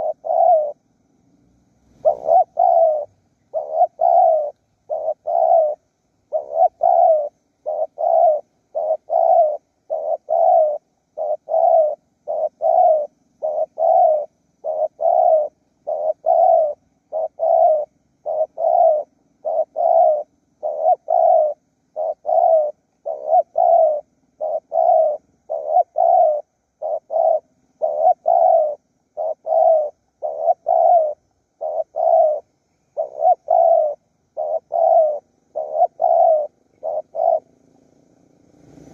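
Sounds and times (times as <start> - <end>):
doves cooing: 0.0 - 0.8, 1.6 - 38.9.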